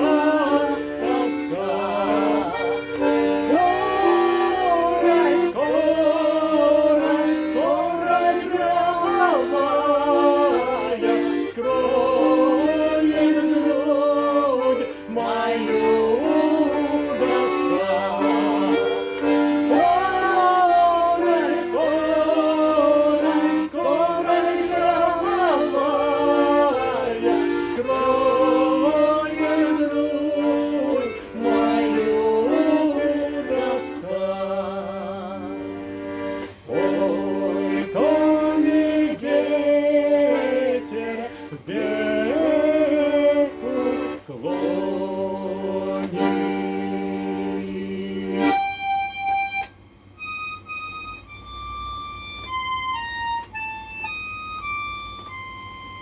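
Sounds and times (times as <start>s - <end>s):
person singing folk song: 0.0s - 49.1s
button accordion chords: 0.0s - 56.0s.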